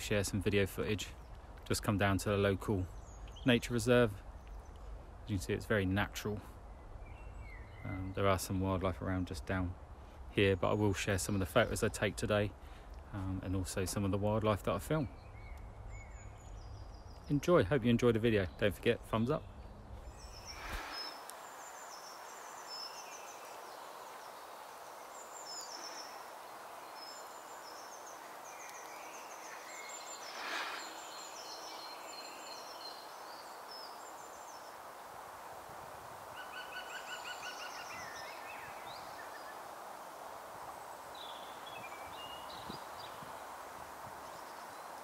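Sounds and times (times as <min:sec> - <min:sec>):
background hiss: 0:00.0 - 0:45.0
songbirds chirping: 0:00.0 - 0:45.0.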